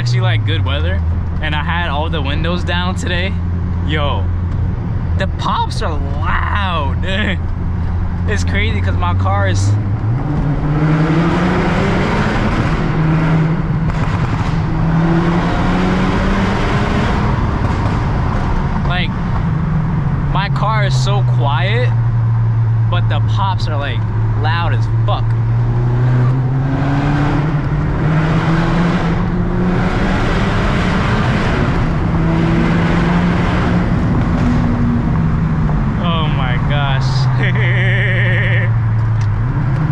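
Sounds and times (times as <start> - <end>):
car engine running while driving: 0.0 - 39.9
road noise: 0.0 - 39.9.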